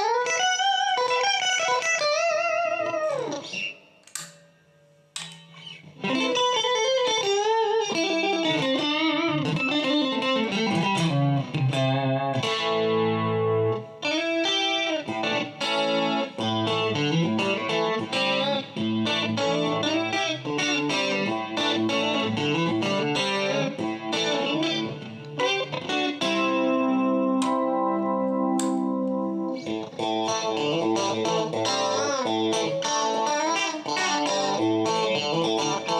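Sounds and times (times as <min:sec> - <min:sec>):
electric guitar through amplifier: 0:00.0 - 0:35.9.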